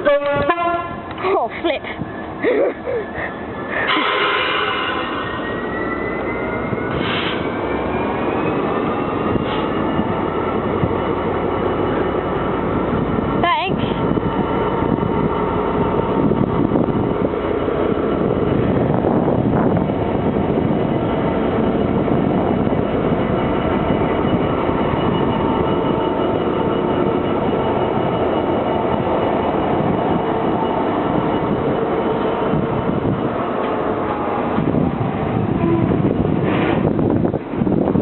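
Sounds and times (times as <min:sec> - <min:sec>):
diesel locomotive rumble: 0:00.0 - 0:38.0
train wagons running on rails: 0:00.0 - 0:38.0.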